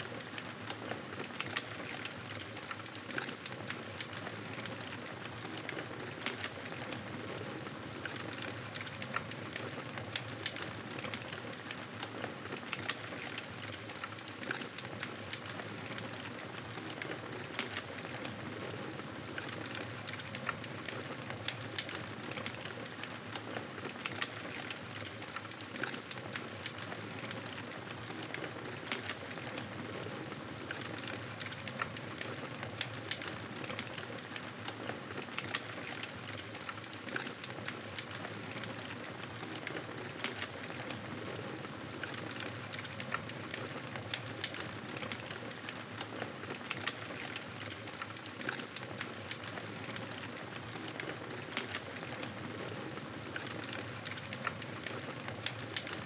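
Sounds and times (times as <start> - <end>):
campfire crackling and popping: 0.2 - 56.0.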